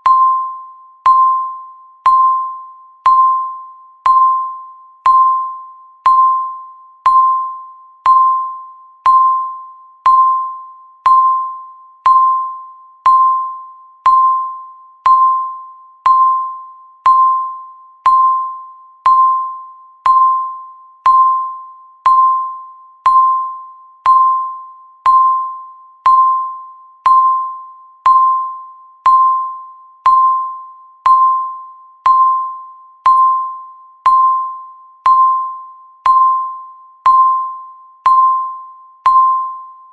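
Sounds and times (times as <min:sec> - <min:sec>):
timer beep: 0:00.0 - 0:39.9.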